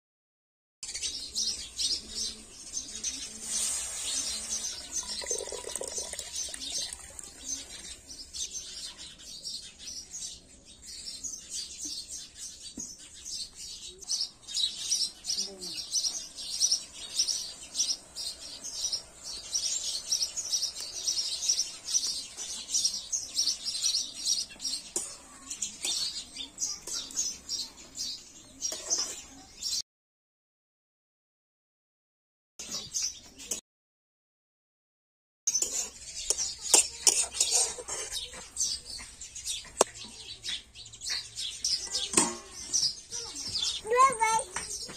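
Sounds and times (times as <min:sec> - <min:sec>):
small birds chirping: 0:00.8 - 0:29.8, 0:32.6 - 0:33.6, 0:35.5 - 0:44.9.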